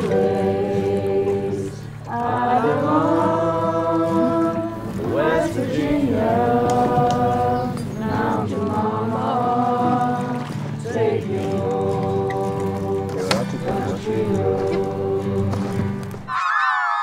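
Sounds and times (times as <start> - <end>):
voices singing long notes: 0.0 - 17.0.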